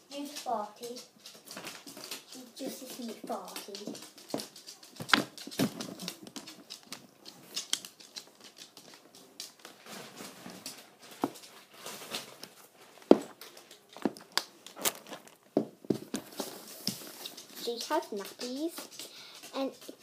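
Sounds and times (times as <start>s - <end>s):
plastic packaging crinkling: 1.4s - 20.0s.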